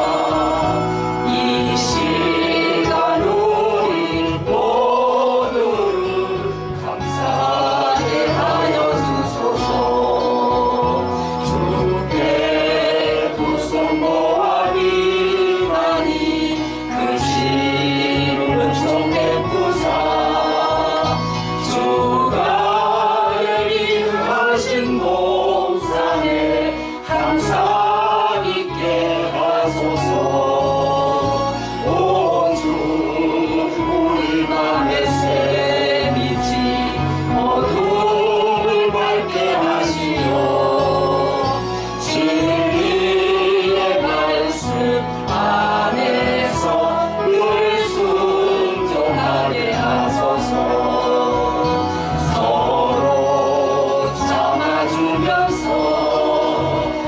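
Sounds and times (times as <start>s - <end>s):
gospel hymn singing: 0.0s - 57.0s.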